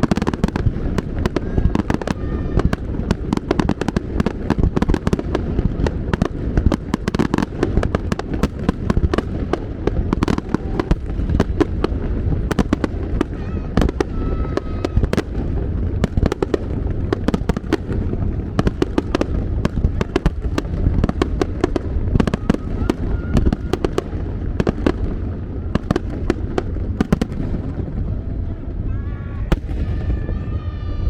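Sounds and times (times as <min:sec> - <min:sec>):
fireworks cracking and crackling: 0:00.0 - 0:31.0.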